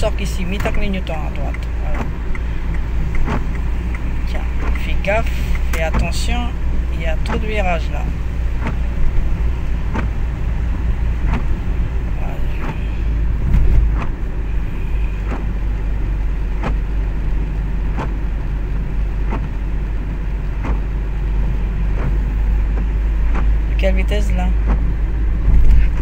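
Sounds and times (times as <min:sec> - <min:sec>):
car engine and tyres on wet road: 0:00.0 - 0:26.0.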